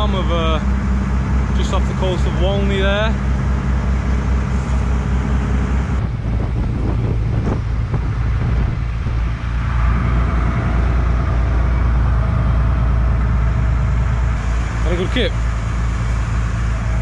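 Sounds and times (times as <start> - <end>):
boat engine humming: 0.0 - 17.0
wind and water rushing: 0.0 - 17.0.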